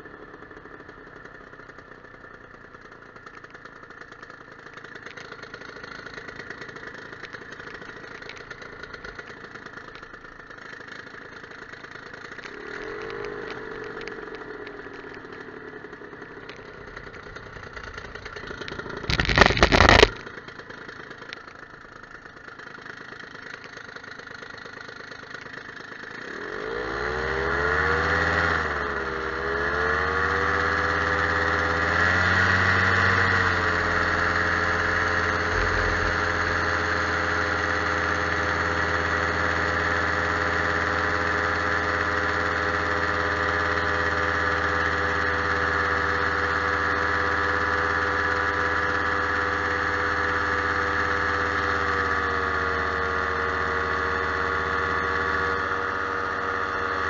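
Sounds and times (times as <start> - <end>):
paraglider engine throttling up: 0.0 - 57.0.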